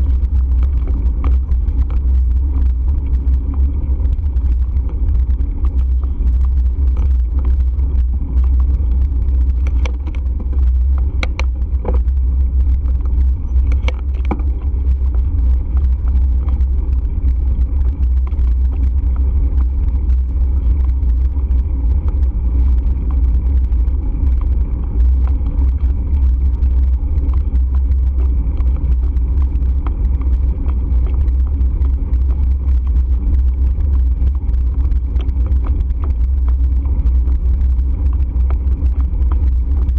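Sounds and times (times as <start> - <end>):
sharp clicks and rattles: 0.0 - 39.9
wind and road rumble: 0.0 - 39.9.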